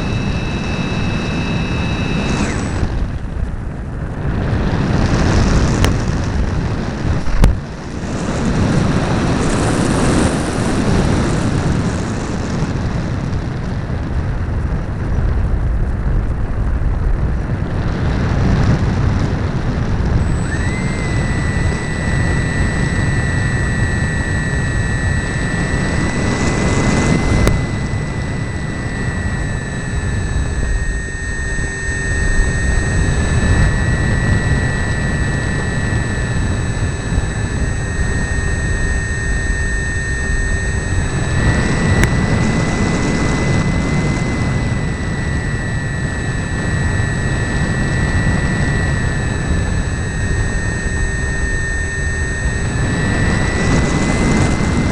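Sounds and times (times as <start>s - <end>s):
motor and propeller whine: 0.0s - 54.9s
wind noise: 0.0s - 54.9s.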